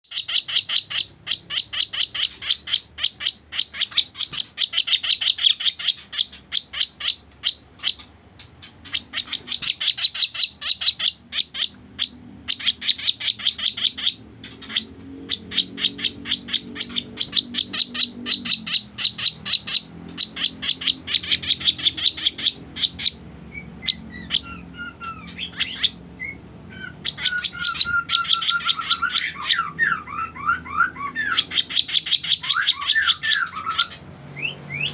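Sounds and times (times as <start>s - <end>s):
fast sharp ticking bird calls: 0.0s - 34.9s
lower bird chirping: 0.0s - 34.9s.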